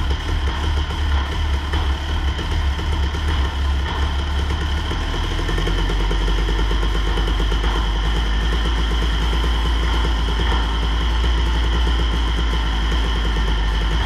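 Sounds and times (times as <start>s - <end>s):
two-stroke engine idling: 0.0s - 14.0s.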